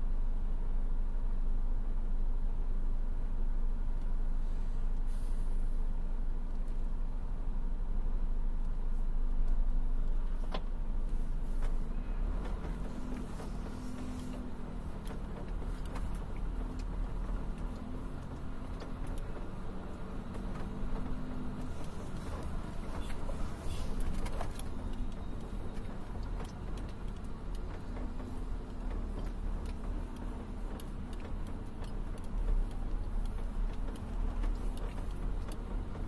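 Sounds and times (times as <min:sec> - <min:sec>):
diesel engines rumbling: 0:00.0 - 0:36.0
steady engine hum: 0:00.0 - 0:36.0.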